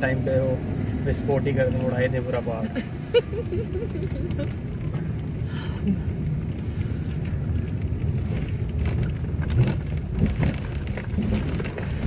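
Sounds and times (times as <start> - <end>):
car driving in traffic: 0.0 - 12.0.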